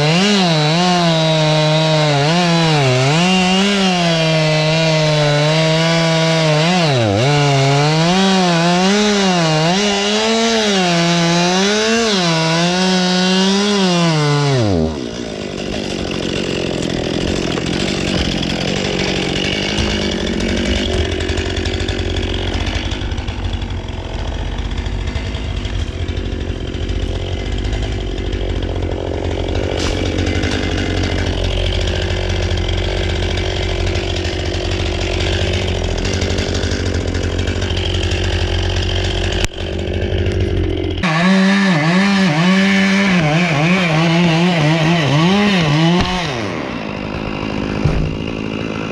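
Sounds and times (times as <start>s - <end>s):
chainsaw cutting: 0.0s - 48.9s.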